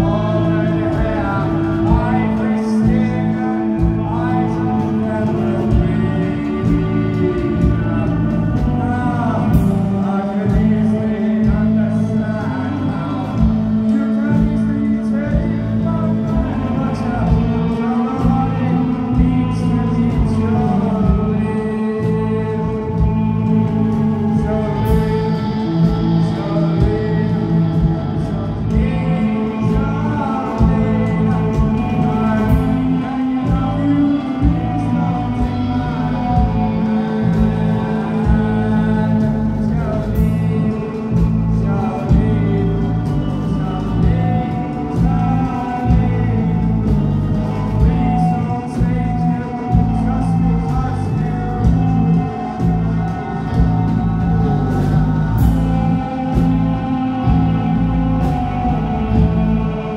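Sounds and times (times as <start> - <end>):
lead singer singing: 0.0 - 59.9
live rock band playing: 0.0 - 59.9.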